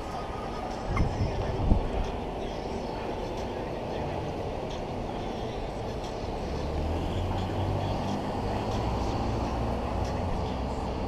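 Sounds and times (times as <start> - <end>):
cars driving by: 0.0 - 11.0.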